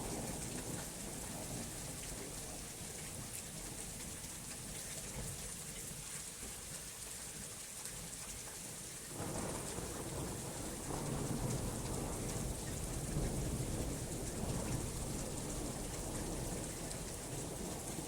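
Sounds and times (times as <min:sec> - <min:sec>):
steady rain hissing: 0:00.0 - 0:18.0.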